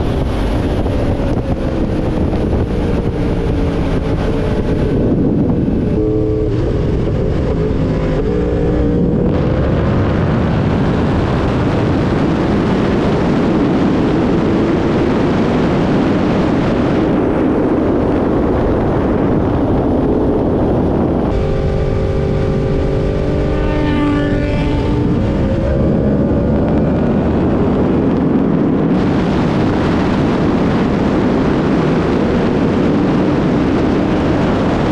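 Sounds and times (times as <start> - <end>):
motorcycle engine: 0.0 - 34.9
wind rush on microphone: 0.0 - 34.9.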